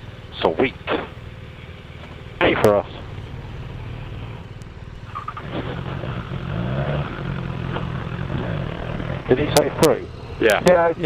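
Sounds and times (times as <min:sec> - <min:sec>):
motorcycle engine pulling away: 0:00.0 - 0:11.0.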